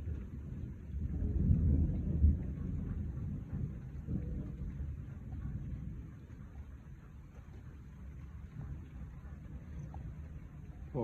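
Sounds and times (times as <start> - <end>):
thunder rumbling: 0.0 - 11.0.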